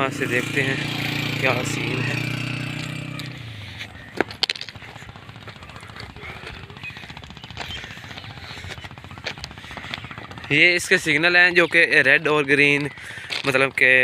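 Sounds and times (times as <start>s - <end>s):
low engine hum: 0.0s - 14.0s
footsteps crunching on stones: 1.7s - 14.0s.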